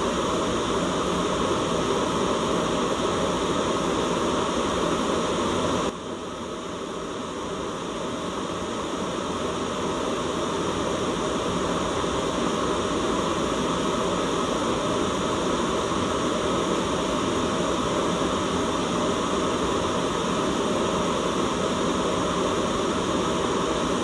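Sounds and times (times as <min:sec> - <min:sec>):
hissing white noise: 0:00.0 - 0:24.0.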